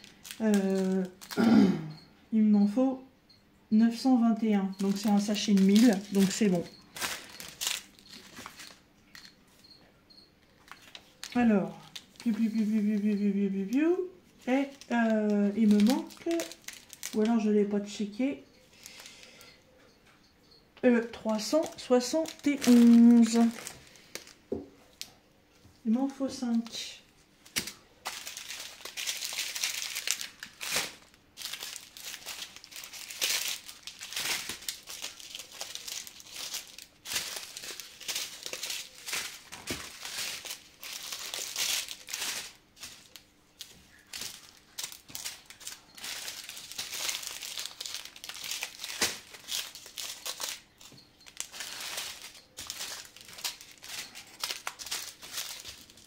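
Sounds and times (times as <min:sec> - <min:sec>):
plastic bags crinkling: 0:00.0 - 0:01.6, 0:04.6 - 0:09.4, 0:10.4 - 0:19.5, 0:21.0 - 0:25.2, 0:25.9 - 0:56.0.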